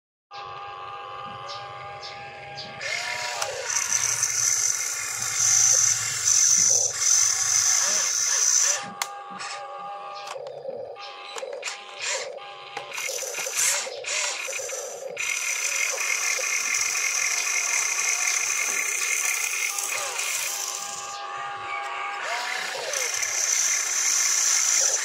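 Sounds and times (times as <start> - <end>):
toy motors whining: 0.3 - 25.0.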